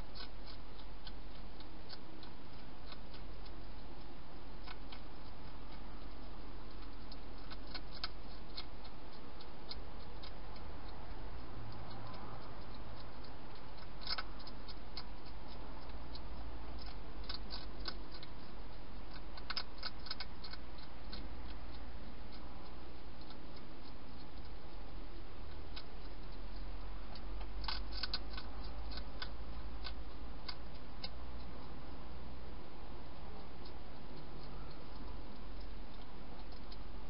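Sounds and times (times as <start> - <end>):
hedgehog crunching dry food: 0.0 - 37.0
steady low hum: 0.0 - 37.0.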